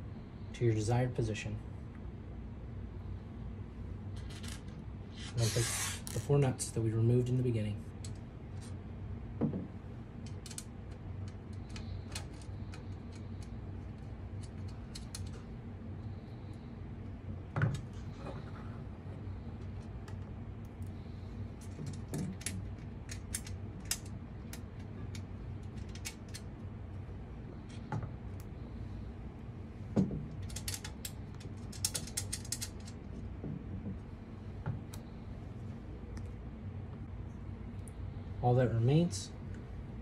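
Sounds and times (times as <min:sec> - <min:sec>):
low hum: 0:06.0 - 0:40.0.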